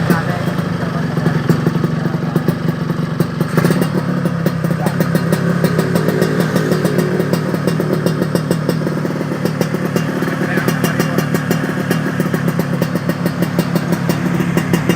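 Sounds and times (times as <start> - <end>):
two-stroke motorcycle engine running: 0.0 - 14.9.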